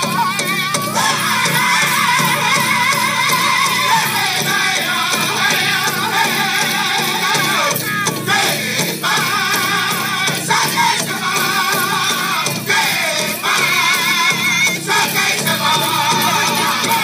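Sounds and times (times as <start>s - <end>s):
big drum beat: 0.0s - 17.0s
voices singing in unison: 0.0s - 17.0s.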